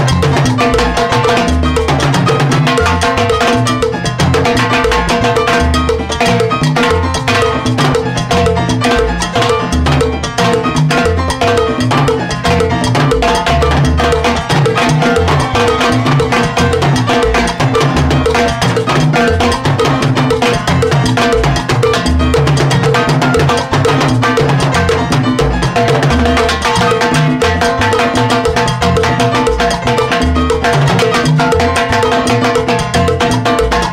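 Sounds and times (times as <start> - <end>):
salsa band playing: 0.0 - 33.9.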